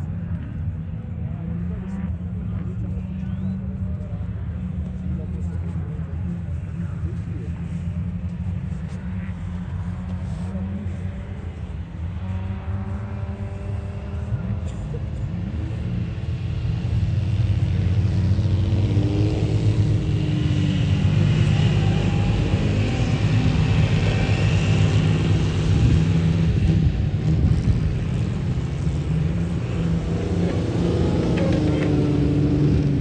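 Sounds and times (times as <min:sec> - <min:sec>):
car engines driving past revving: 0:00.0 - 0:33.0.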